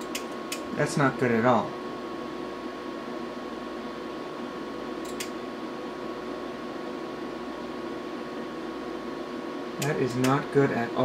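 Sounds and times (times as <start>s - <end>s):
cooling fan whirring: 0.0s - 11.0s.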